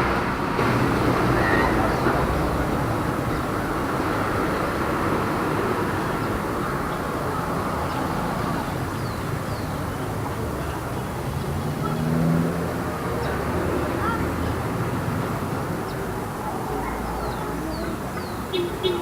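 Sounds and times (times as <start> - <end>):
cars passing: 0.0 - 19.0
vehicle engine hum: 0.0 - 19.0.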